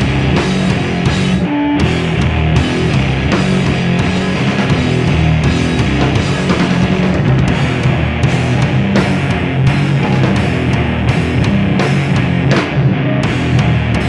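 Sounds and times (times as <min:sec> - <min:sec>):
distorted electric guitars: 0:00.0 - 0:14.0
drum kit with crashing cymbals: 0:00.0 - 0:14.0
punk band playing live: 0:00.0 - 0:14.0.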